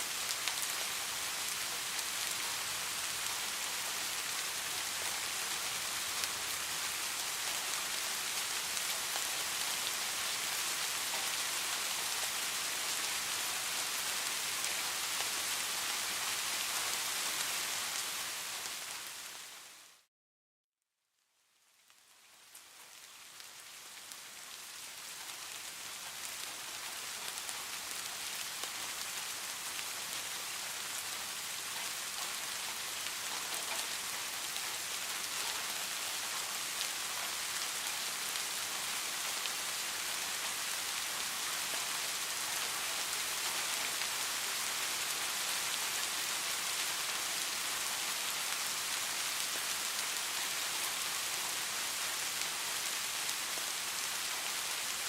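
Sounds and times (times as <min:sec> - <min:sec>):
steady rain falling: 0:00.0 - 0:20.1, 0:21.4 - 0:55.0.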